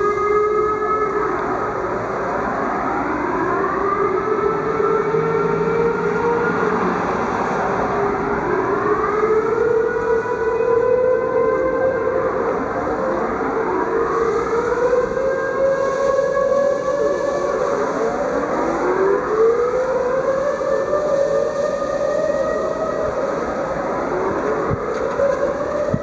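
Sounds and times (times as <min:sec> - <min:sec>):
air raid sirens wailing: 0:00.0 - 0:26.0.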